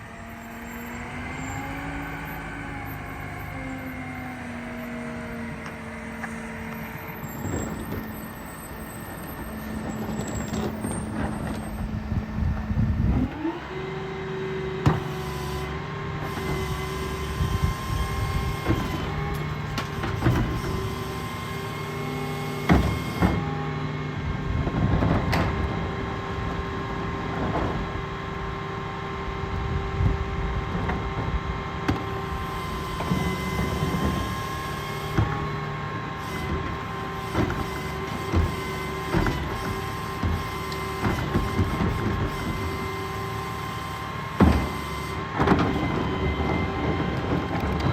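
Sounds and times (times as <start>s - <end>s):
diesel engine idling and revving: 0.0s - 47.9s
hydraulics running: 0.0s - 47.9s.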